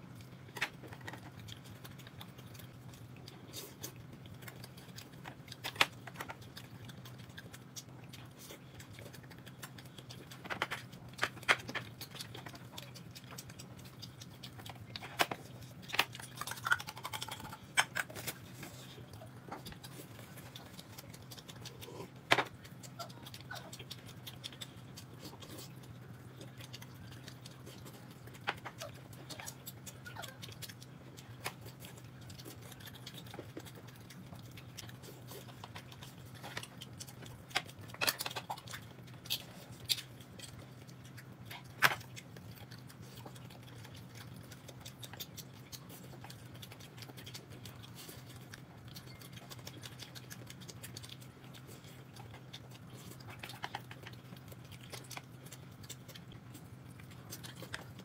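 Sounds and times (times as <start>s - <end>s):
people chewing: 0.0s - 58.0s
steady low hum: 0.0s - 58.0s.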